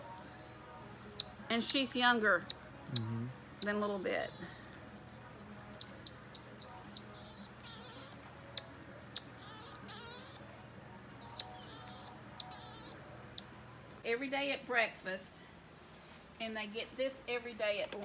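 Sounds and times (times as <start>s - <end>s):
marmoset high-pitched chirps: 0.3s - 1.8s, 2.4s - 14.8s, 15.4s - 16.9s.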